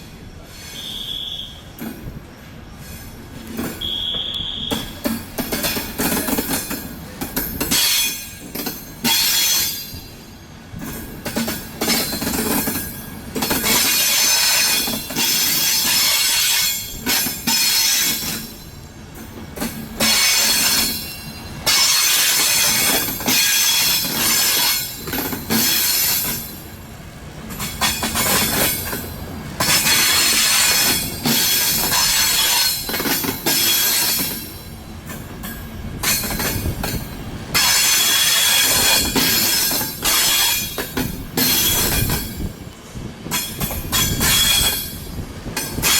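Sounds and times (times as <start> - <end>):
train wheels squealing on rails: 0.0 - 45.9.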